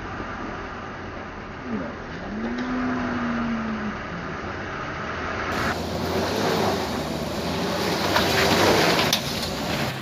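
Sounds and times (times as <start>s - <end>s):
truck and bus engines running: 0.0s - 10.0s.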